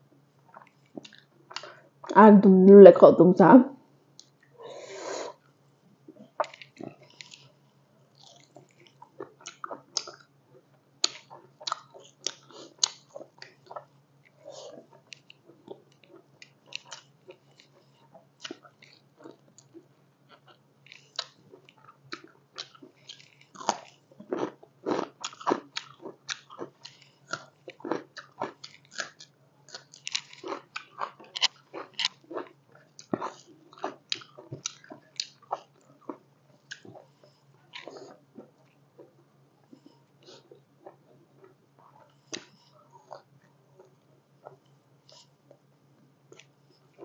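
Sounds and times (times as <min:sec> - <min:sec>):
faint low hum: 0:00.0 - 0:47.0
wet chewing and mouth smacking: 0:00.5 - 0:02.2, 0:06.2 - 0:10.3, 0:11.0 - 0:45.6.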